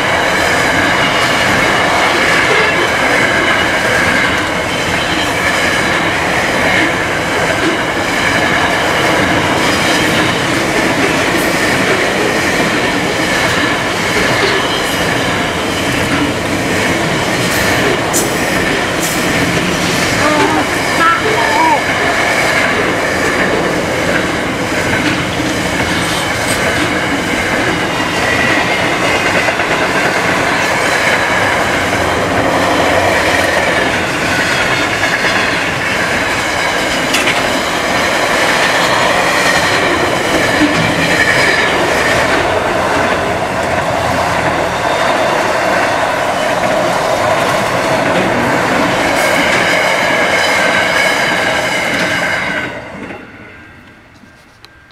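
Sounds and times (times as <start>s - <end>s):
steel wheels clattering on rails: 0.0s - 54.9s.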